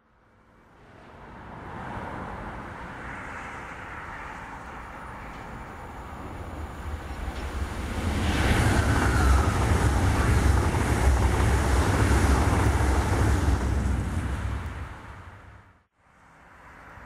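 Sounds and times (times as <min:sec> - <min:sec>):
high-speed train passing: 0:00.2 - 0:17.0.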